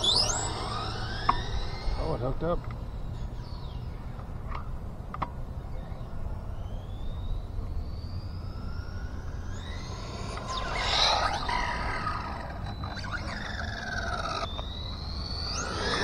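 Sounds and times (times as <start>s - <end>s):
rc car motor whining: 0.0s - 4.2s, 5.7s - 16.0s.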